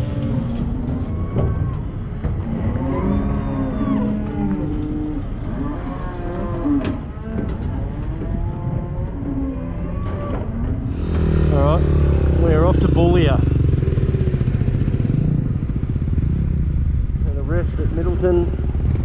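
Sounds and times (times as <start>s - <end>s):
cattle mooing: 0.0s - 15.2s.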